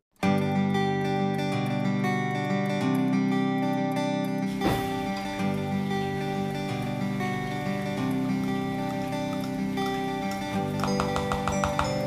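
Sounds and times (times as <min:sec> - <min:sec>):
guitar background music: 0:00.2 - 0:12.0.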